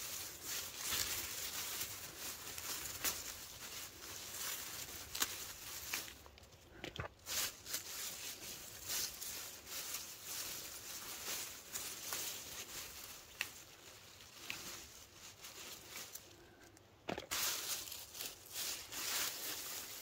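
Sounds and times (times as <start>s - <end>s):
leafy vines rustling: 0.0s - 20.0s.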